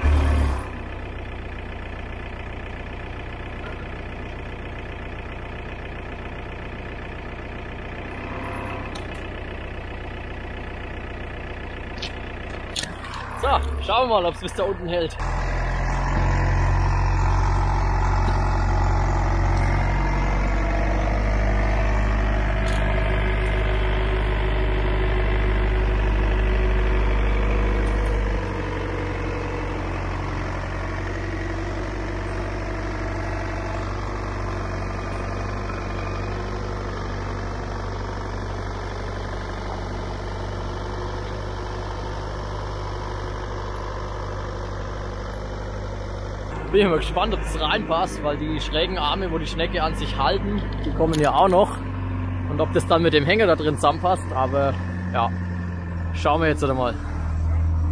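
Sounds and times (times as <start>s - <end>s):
diesel engine droning: 0.0s - 57.9s.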